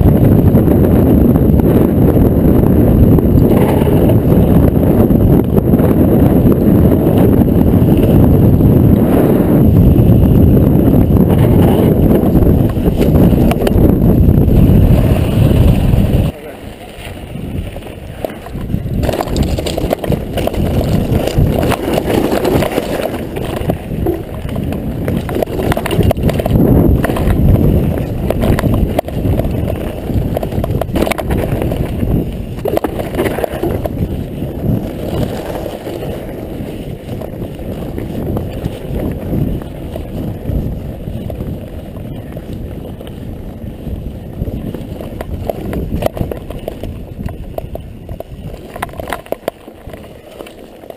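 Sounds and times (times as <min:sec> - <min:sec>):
bike rattling and knocking: 0:00.0 - 0:16.3, 0:17.4 - 0:50.9
bike rolling over rough trail: 0:00.0 - 0:50.9
wind buffeting microphone: 0:00.0 - 0:50.9.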